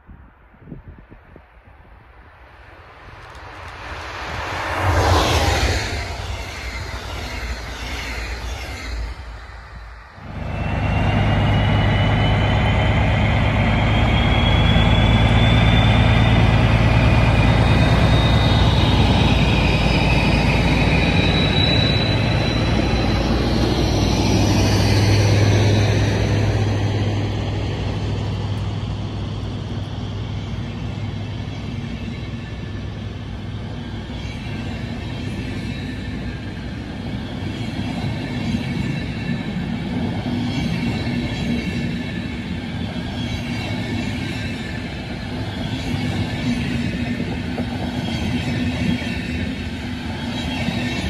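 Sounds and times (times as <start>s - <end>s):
train wheels rolling: 2.9s - 51.0s
locomotive engine drone with whine: 3.2s - 51.0s.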